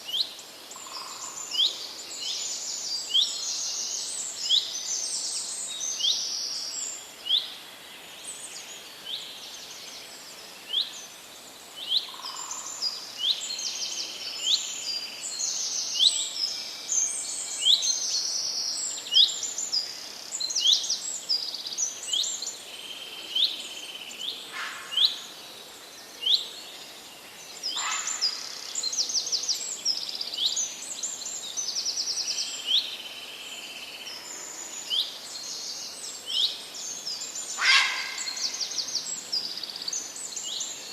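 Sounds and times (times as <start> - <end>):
faint background hiss: 0.0 - 40.9
songbirds chirping and trilling: 0.0 - 40.9.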